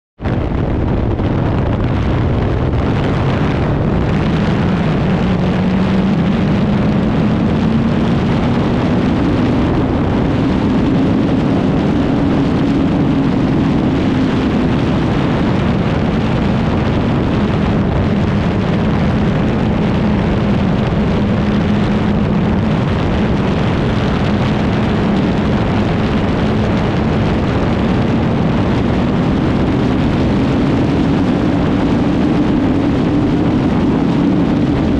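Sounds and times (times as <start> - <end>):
heavy wind rush: 0.2 - 34.9
motorcycle engine accelerating: 0.2 - 34.9.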